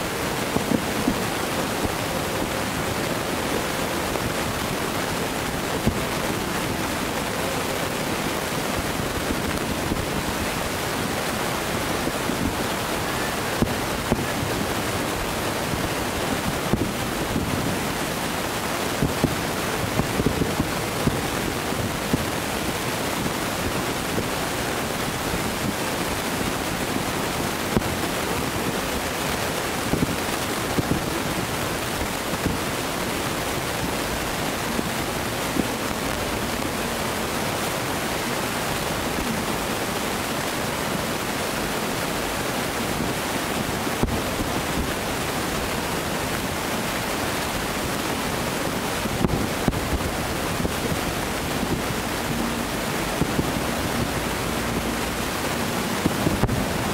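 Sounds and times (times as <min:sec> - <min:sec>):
surf: 0:00.0 - 0:56.9
wind: 0:00.0 - 0:56.9.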